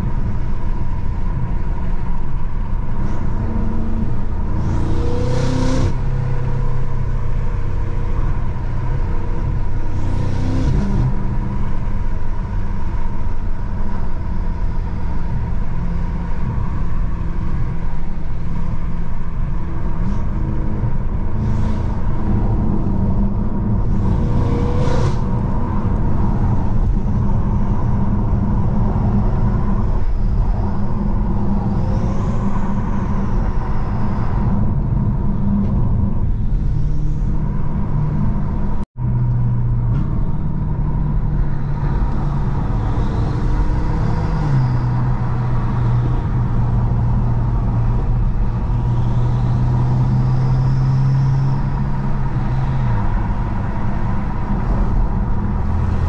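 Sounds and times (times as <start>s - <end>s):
car engine droning: 0.0s - 56.0s
road noise: 0.0s - 56.0s.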